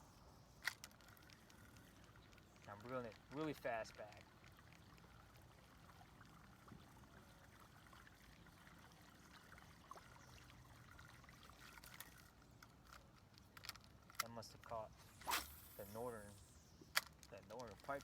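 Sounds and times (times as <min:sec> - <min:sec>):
faint water trickling: 0:00.0 - 0:18.0.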